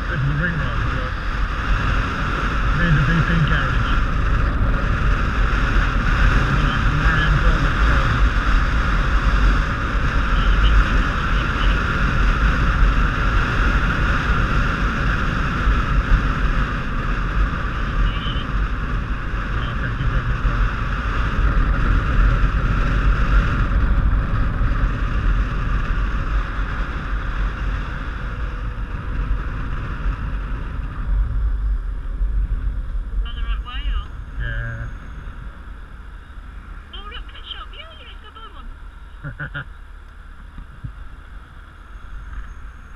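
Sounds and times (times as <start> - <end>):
motorcycle engine and road rumble: 0.0 - 42.9
wind rushing over camera: 0.0 - 42.9.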